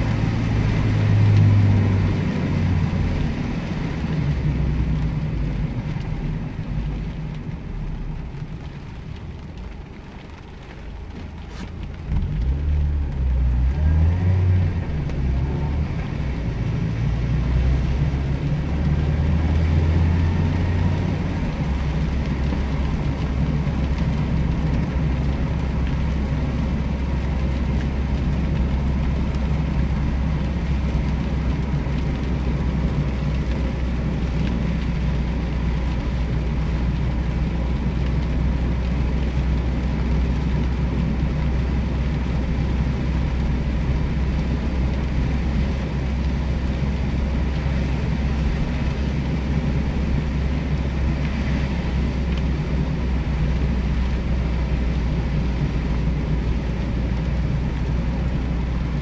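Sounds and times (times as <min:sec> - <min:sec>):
tyres hissing on wet road: 0:00.0 - 0:59.0.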